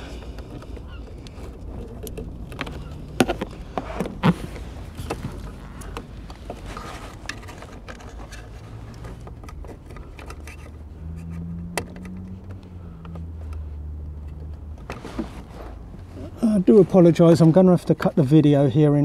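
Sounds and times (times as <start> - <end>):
cable rustling: 0.0 - 17.9
low steady hum: 0.0 - 18.3.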